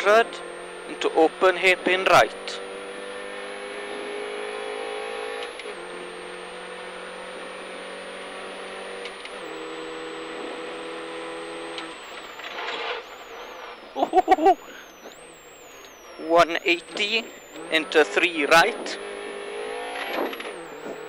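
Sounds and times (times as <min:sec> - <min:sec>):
car engine high-revving: 0:00.0 - 0:21.0
high whine: 0:00.0 - 0:21.0.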